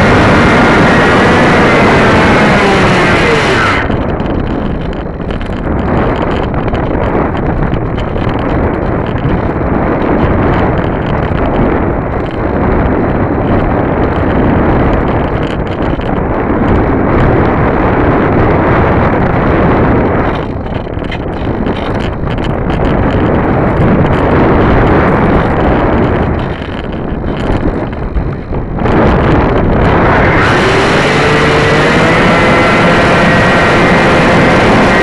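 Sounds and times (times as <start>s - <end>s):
wind noise on microphone: 0.0s - 35.0s.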